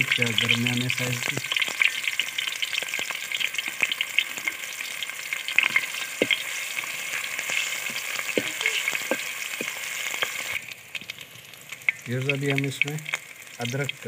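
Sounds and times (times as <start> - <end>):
onion sizzling in oil: 0.0 - 14.0.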